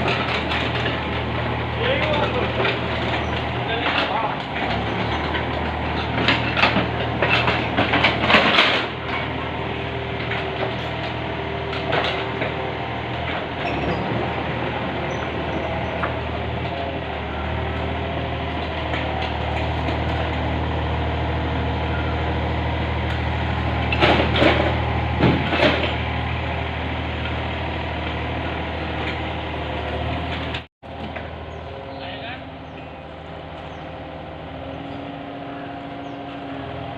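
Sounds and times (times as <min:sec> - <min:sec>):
diesel excavator engine running: 0:00.0 - 0:36.9.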